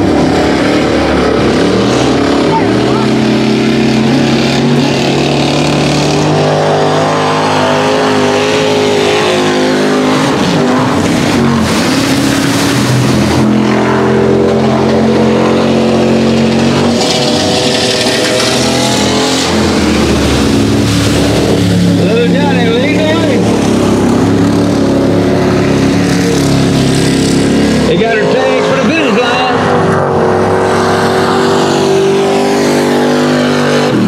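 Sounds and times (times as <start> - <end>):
mud and water spraying: 0.0 - 34.0
truck engine revving: 0.0 - 34.0.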